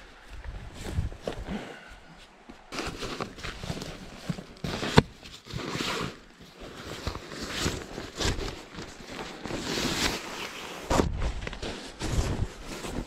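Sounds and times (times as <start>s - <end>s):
camping gear rustling and scraping: 0.0s - 13.0s.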